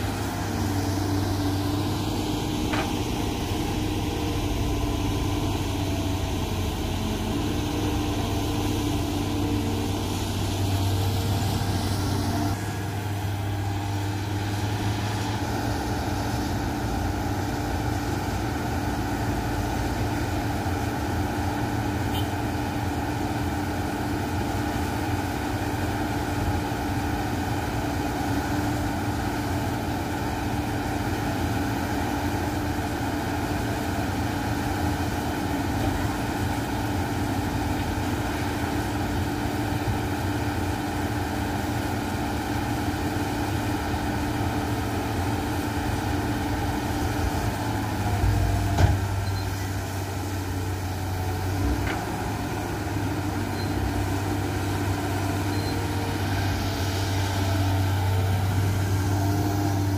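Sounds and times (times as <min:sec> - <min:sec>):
dump truck engine running: 0:00.0 - 0:59.9
excavator diesel engine running: 0:00.0 - 0:59.9.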